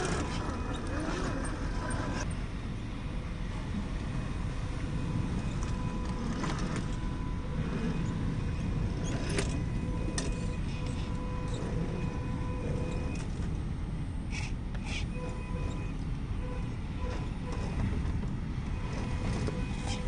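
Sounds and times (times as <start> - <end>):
electric motor whine: 0.0 - 2.3, 4.3 - 13.6, 14.4 - 20.0.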